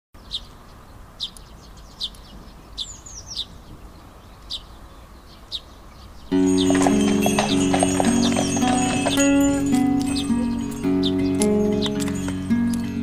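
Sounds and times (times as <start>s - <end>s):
small songbird chirping: 0.2s - 13.0s.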